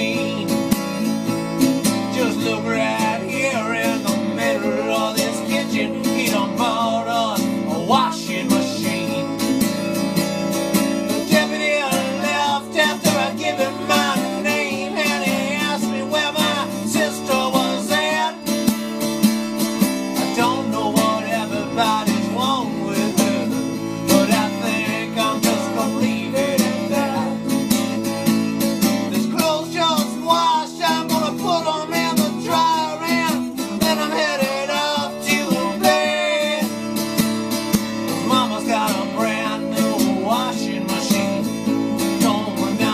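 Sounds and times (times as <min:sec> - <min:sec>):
strummed acoustic guitar: 0:00.0 - 0:42.9.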